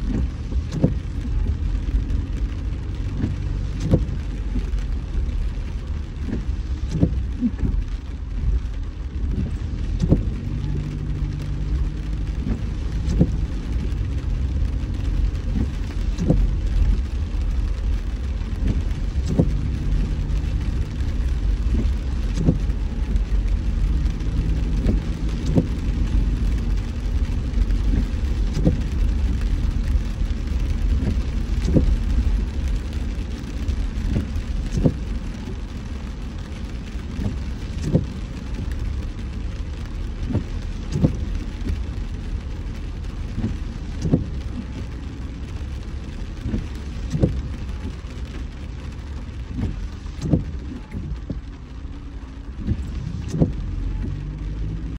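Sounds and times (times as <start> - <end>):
rain: 0.0 - 54.9
road rumble: 0.0 - 54.9.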